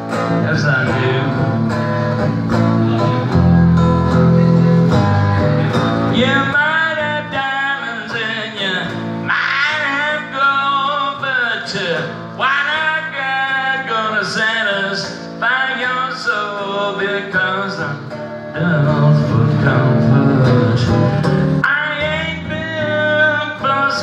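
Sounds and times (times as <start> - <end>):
electric guitar bending notes: 0.0 - 24.0.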